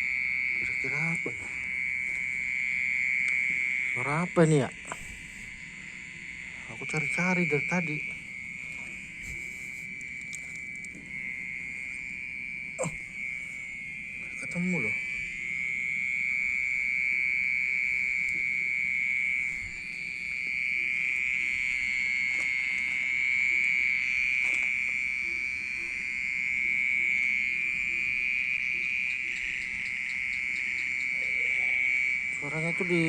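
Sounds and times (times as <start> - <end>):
insect high-pitched buzz: 0.0 - 33.0.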